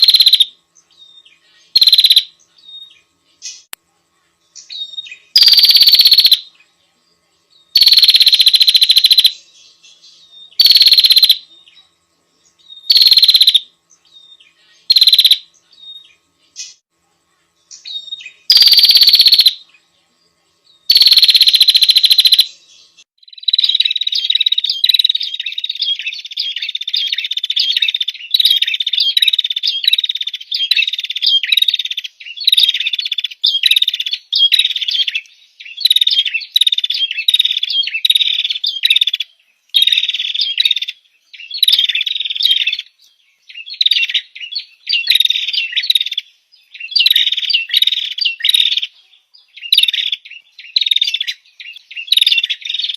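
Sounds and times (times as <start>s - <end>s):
small songbird singing: 0.0s - 52.9s.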